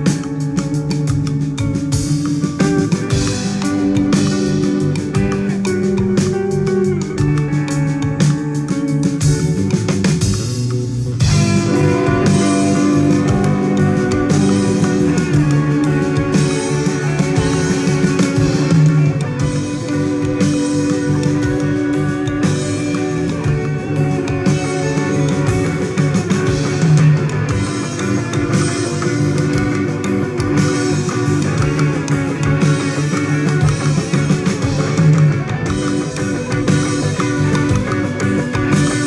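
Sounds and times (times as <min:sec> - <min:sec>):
instrumental rock music: 0:00.0 - 0:39.0.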